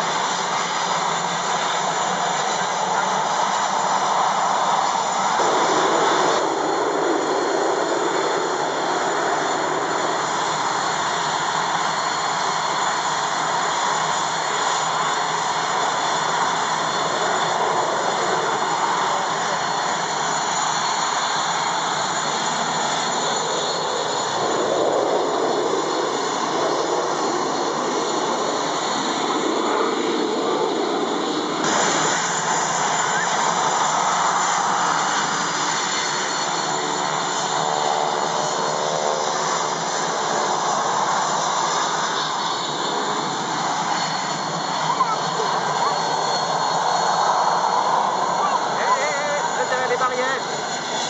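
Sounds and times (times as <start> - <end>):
high jet whine: 0.0 - 51.0
jet engines running: 0.0 - 51.0.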